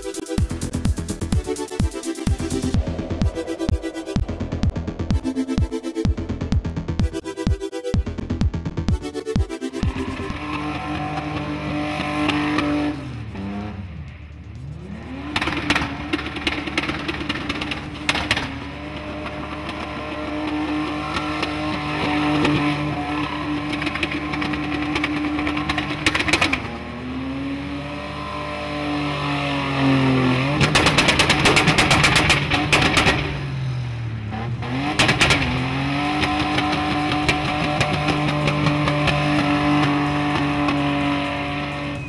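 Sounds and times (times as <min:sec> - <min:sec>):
car engines revving: 0:00.0 - 0:42.0
engine crackles: 0:00.0 - 0:42.0.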